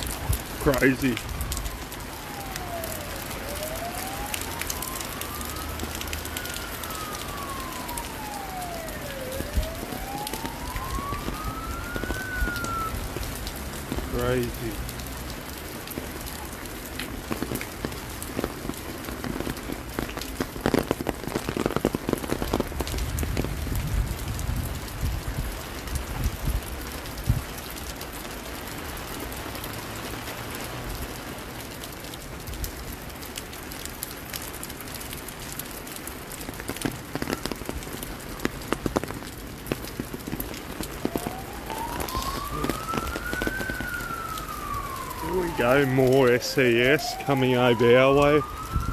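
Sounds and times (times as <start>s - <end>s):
emergency vehicle siren wailing: 0.0s - 48.9s
rain falling: 0.0s - 48.9s.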